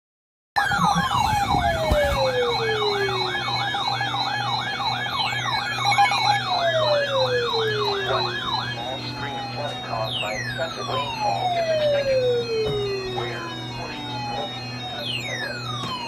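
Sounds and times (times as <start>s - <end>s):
electronic siren yelp and wail: 0.6s - 16.0s.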